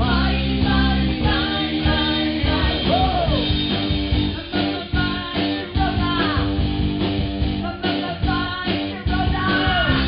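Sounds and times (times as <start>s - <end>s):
person singing: 0.0s - 3.6s, 4.3s - 6.6s, 7.6s - 10.0s
bass guitar: 0.0s - 10.0s
electric guitar: 0.0s - 10.0s.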